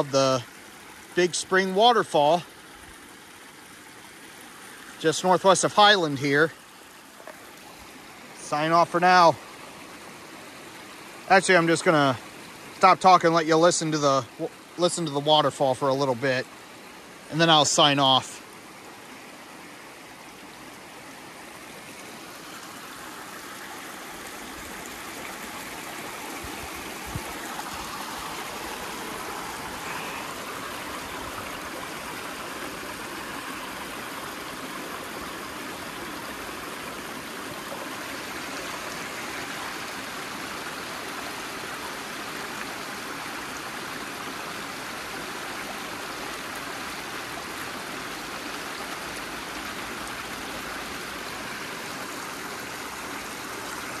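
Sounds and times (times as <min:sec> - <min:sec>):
waterfall splashing over rocks: 0:00.0 - 0:54.0.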